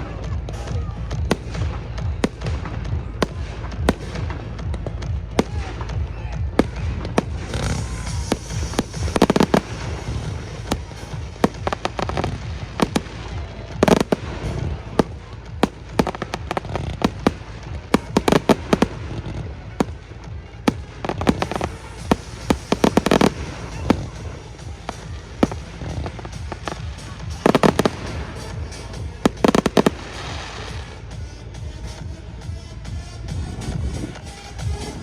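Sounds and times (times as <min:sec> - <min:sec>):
fireworks bangs: 0:00.0 - 0:31.2
fireworks crackling: 0:00.0 - 0:32.6
background music: 0:00.0 - 0:35.0.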